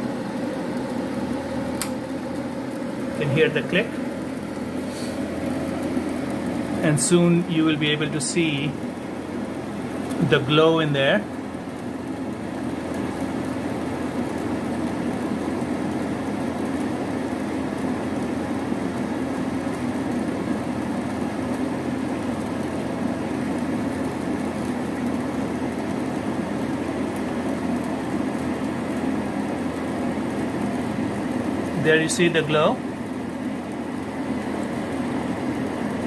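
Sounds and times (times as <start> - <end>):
furnace inducer motor humming: 0.0 - 36.0.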